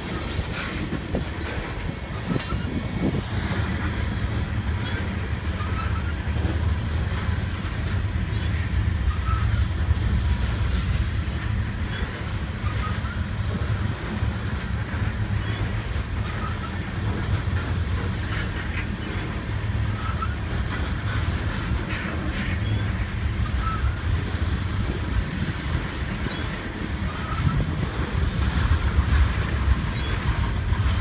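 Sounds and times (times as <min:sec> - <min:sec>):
steel train wheels rumbling on rails: 0:00.0 - 0:31.0.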